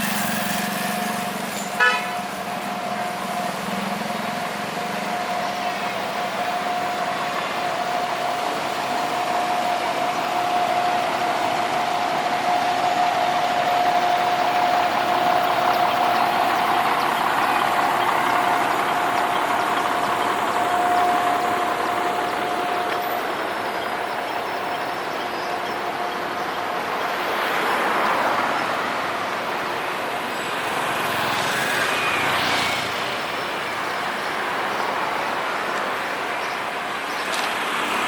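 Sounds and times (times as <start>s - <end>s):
steady whine: 0.0s - 38.0s
street traffic and engines: 0.0s - 38.0s.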